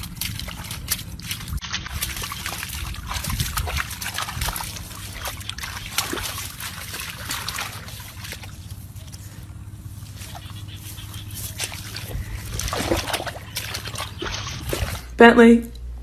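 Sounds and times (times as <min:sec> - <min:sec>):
water splashing and sloshing: 0:00.0 - 0:15.2.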